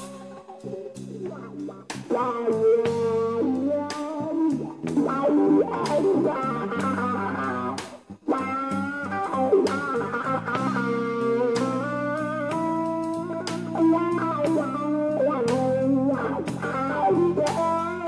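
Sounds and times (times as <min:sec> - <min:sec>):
electric guitar lead lines: 0:00.0 - 0:18.0
slow blues band playing: 0:00.0 - 0:18.0.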